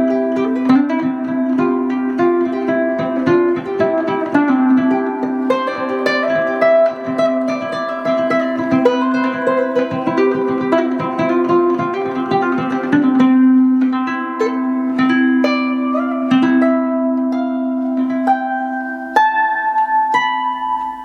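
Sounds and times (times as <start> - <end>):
ukulele plucked melody: 0.0 - 21.0.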